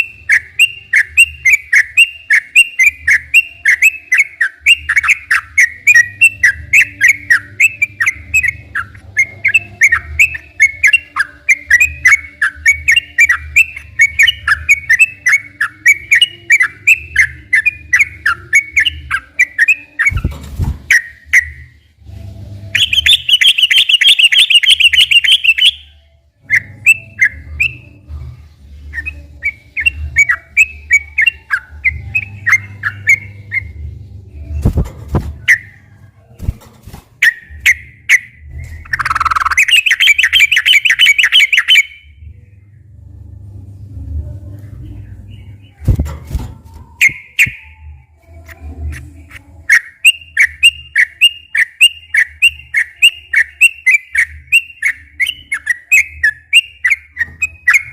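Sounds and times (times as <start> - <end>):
bird chirping: 0.0 - 21.9, 22.8 - 28.2, 28.8 - 42.2, 46.7 - 57.9.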